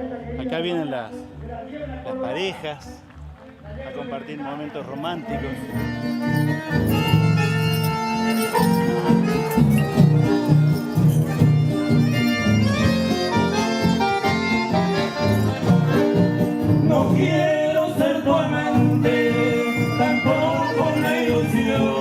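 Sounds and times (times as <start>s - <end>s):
accordion melody: 4.1s - 22.0s.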